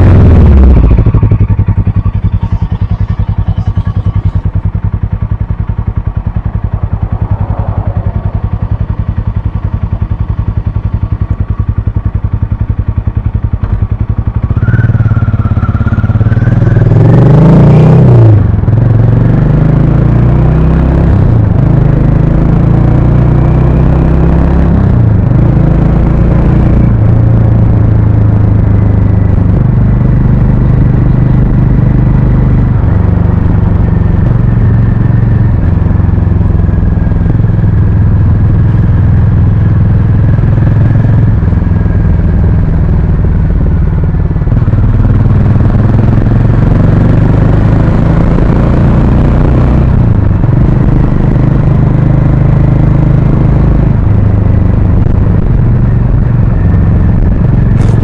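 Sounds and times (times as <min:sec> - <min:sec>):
motorcycle engine revving while riding: 0:00.0 - 0:58.0.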